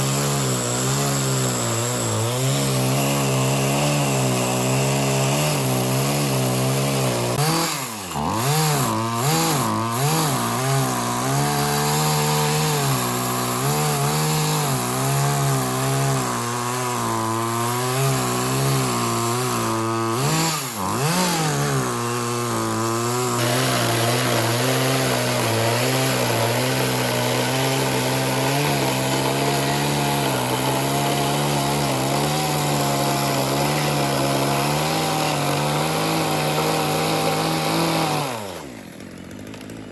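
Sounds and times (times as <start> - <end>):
chainsaw running under load: 0.0 - 39.9.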